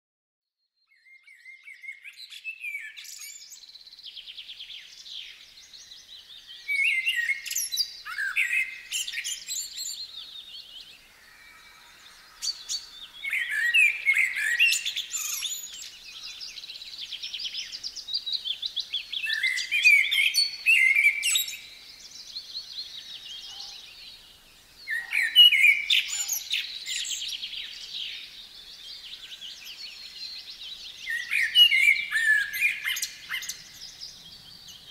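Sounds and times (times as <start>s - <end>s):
songbirds singing: 0.6s - 34.9s
birds twittering: 1.0s - 34.9s.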